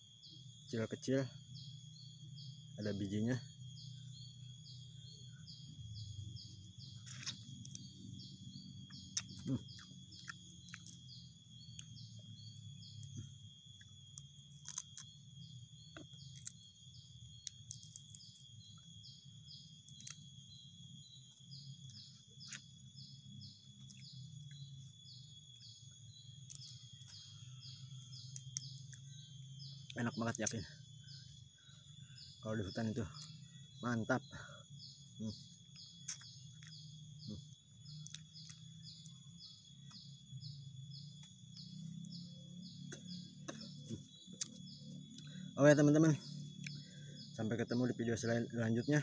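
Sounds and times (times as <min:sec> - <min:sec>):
high-pitched insect drone: 0:00.0 - 0:49.0.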